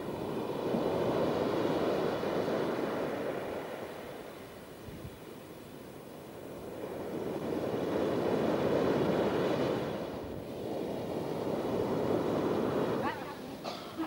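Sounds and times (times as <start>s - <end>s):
surf breaking on a beach: 0.0s - 14.0s.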